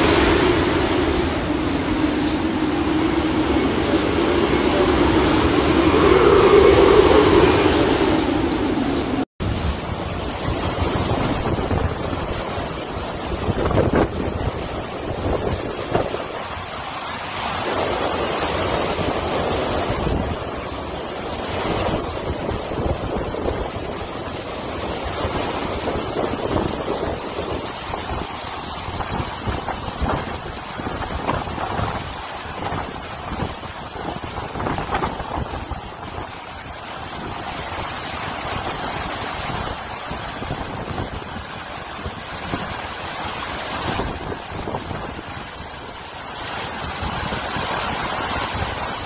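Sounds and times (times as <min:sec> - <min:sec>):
driving rain: 0:00.0 - 0:49.0
strong gusting wind: 0:00.0 - 0:49.0
wind buffeting microphone: 0:00.0 - 0:49.0.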